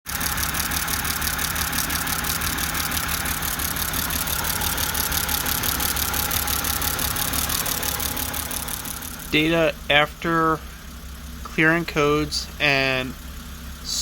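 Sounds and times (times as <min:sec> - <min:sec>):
car engine idling with ticking: 0:00.0 - 0:14.0.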